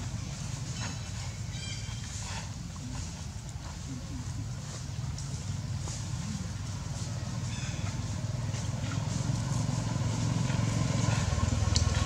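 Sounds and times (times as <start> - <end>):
engine running with pulsing hum: 0.0 - 12.0.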